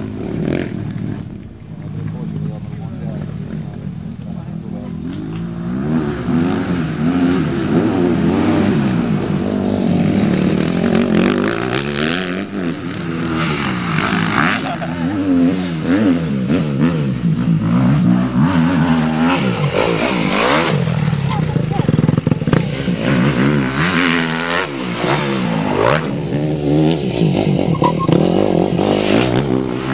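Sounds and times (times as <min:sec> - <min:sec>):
motocross bike engine revving: 0:00.0 - 0:29.9.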